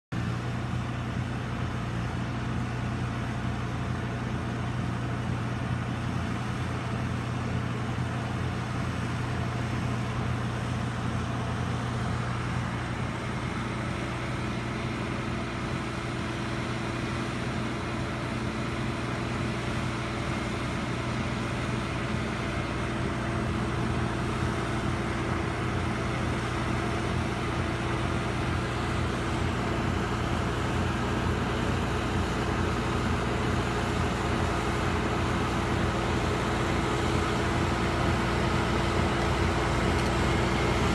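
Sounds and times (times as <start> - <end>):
tractor engine hum: 0.1 - 40.9.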